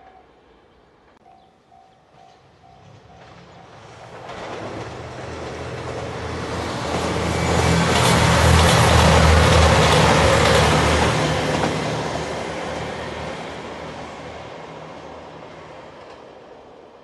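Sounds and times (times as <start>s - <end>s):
train wheels rumbling on rails: 1.1s - 17.0s.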